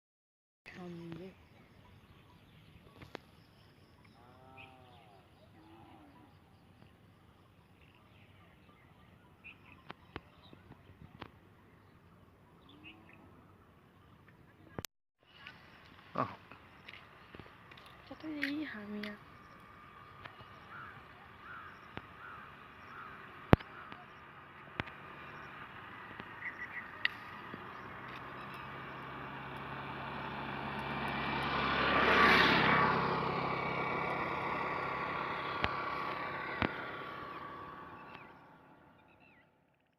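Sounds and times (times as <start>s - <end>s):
motor vehicle passing by: 1.9s - 14.6s, 15.2s - 39.9s.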